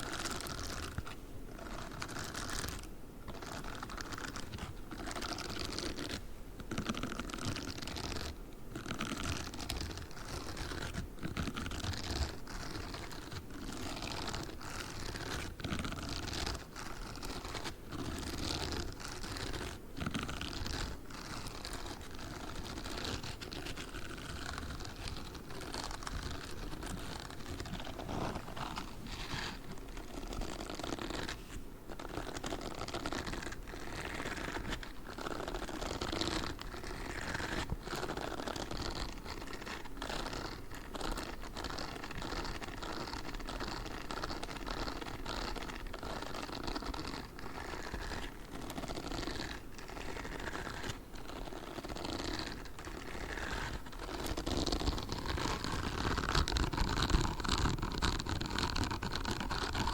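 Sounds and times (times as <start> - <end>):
gloves scratching a microphone: 0.0 - 59.9.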